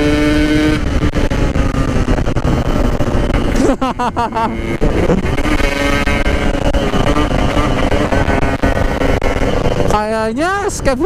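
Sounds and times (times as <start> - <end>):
motorcycle two-stroke engine: 0.0 - 11.0
wind rumble on microphone: 0.0 - 11.0.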